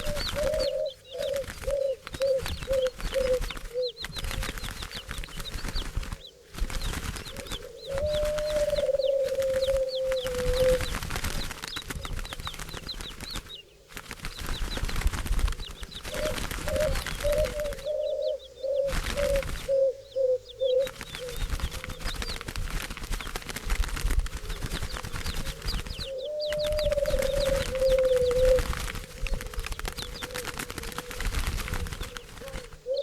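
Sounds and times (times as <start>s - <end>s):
doves cooing: 0.0s - 12.7s, 14.0s - 33.0s
dove wings flapping: 0.0s - 33.0s.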